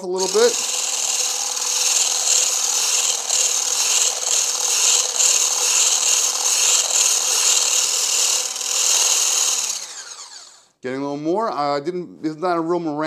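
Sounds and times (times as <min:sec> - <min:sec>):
immersion blender whisk whirring: 0:00.0 - 0:10.7.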